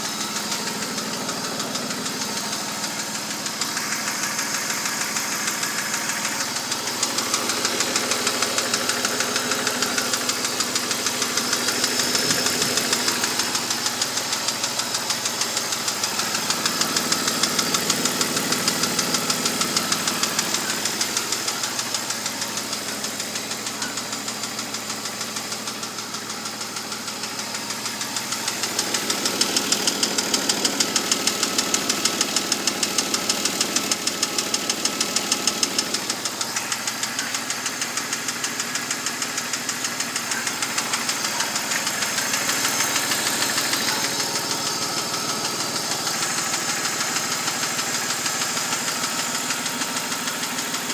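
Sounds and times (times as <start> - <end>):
car engine running: 0.0 - 50.9
rapid regular engine knocking: 0.0 - 50.9.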